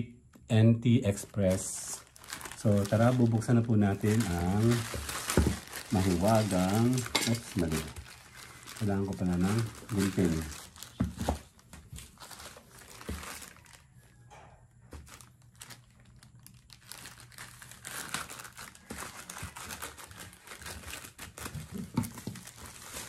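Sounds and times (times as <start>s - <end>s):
plastic mailer bag crinkling: 1.0s - 14.2s, 14.9s - 23.0s.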